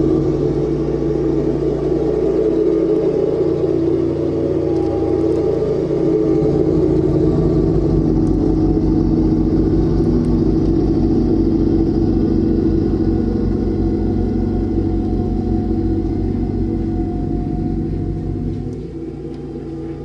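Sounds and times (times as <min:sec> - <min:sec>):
garden tractor engine running: 0:00.0 - 0:20.0.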